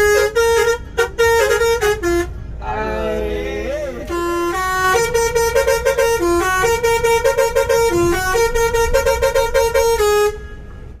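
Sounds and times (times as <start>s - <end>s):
bus musical air horn tune: 0.0s - 11.0s.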